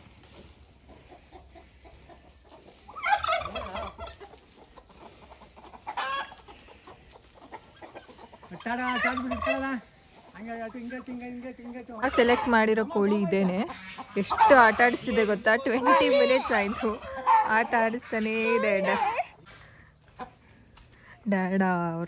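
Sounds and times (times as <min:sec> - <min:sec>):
chickens squawking: 0:00.0 - 0:20.8
chickens and roosters calling: 0:00.0 - 0:21.0.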